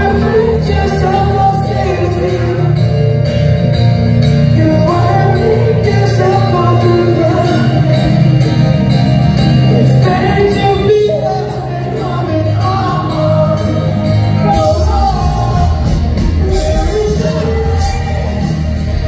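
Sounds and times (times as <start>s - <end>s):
man singing: 0.0s - 3.6s, 4.2s - 8.9s, 9.6s - 19.0s
live band with electric guitar: 0.0s - 19.0s.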